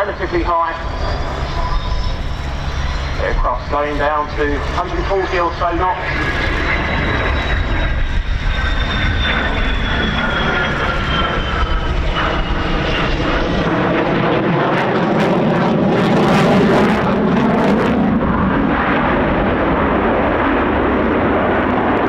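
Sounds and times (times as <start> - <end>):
crackling afterburner rumble: 0.0 - 22.0
jet engine rumble and whine: 0.0 - 22.0.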